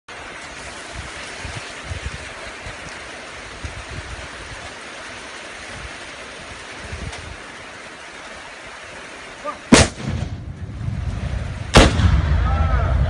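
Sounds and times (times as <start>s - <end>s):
wind buffeting microphone: 0.2s - 9.0s, 10.0s - 13.0s.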